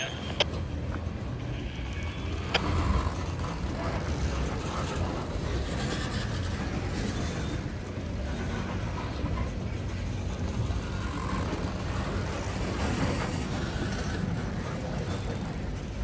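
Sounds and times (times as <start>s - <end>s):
freight train wheels rumbling on rail: 0.0s - 16.0s.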